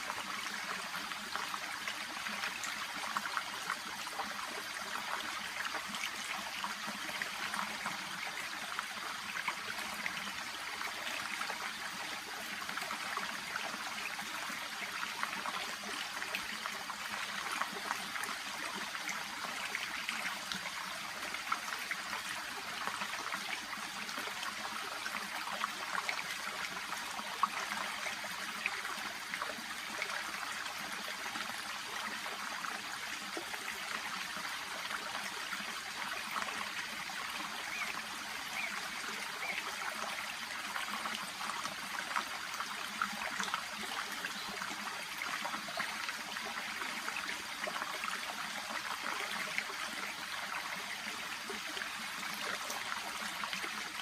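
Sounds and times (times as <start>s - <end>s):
brook babbling over stones: 0.0s - 54.0s.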